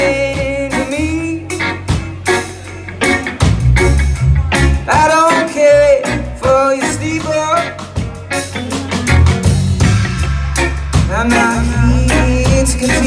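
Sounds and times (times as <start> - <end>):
reggae band playing live: 0.0 - 13.0.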